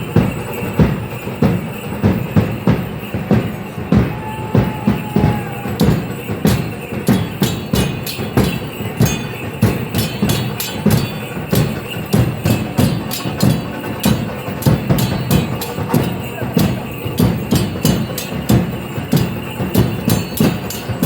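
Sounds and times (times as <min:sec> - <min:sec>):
crisp percussive strikes: 0:00.0 - 0:21.0
drum beating steady rhythm: 0:00.0 - 0:21.0.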